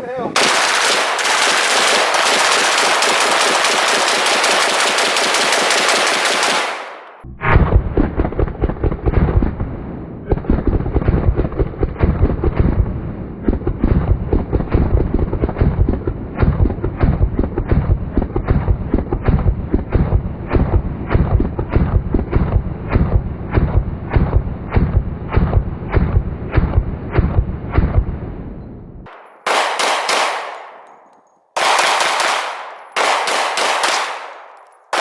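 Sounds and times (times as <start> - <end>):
rapid gunfire: 0.3 - 7.2, 8.2 - 28.0, 29.1 - 35.0.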